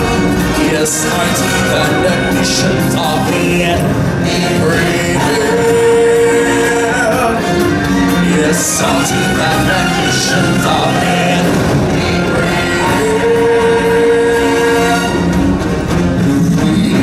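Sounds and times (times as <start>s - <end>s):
stage show music with singing: 0.0s - 17.0s.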